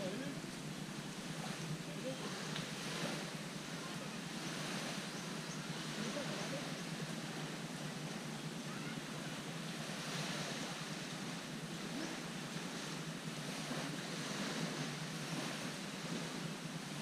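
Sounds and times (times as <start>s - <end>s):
small waves washing onto beach: 0.0s - 17.0s.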